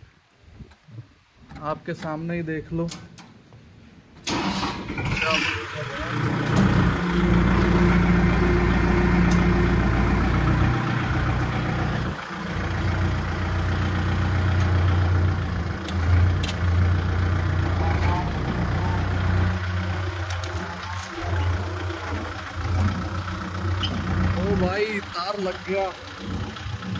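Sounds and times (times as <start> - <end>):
diesel tractor engine running: 4.3 - 26.9.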